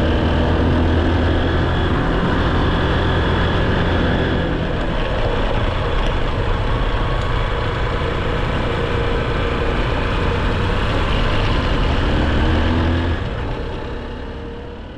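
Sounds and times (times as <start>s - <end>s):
low engine rumble: 0.0s - 14.9s.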